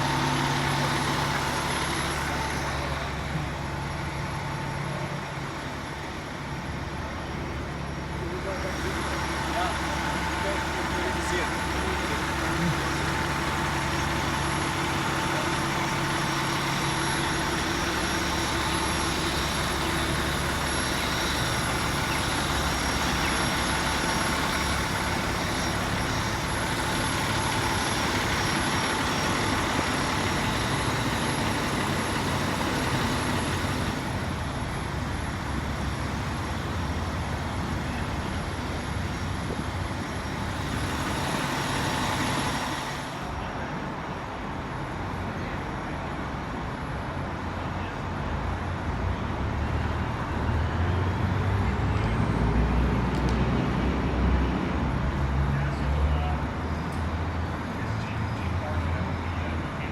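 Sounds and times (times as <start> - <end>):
large engine idling: 0.0 - 59.9
street noise: 0.0 - 59.9.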